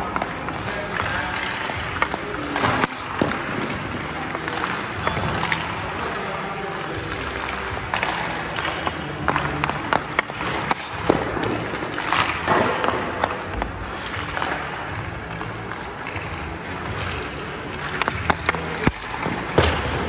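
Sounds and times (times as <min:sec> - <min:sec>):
skates scraping on ice: 0:00.0 - 0:20.0
stick striking pucks: 0:00.0 - 0:20.0.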